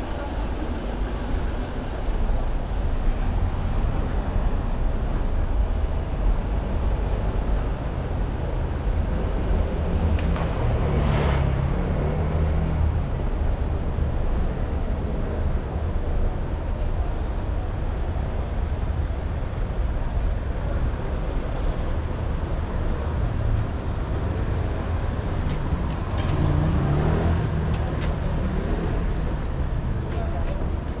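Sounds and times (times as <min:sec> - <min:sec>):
rumble of passing vehicles: 0:00.0 - 0:31.0.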